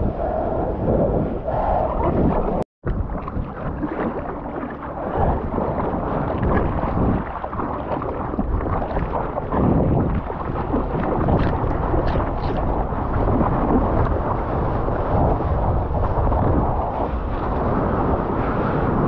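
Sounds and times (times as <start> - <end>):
wind buffeting microphone: 0.0 - 19.0
water splashing around surfboard: 1.9 - 18.8.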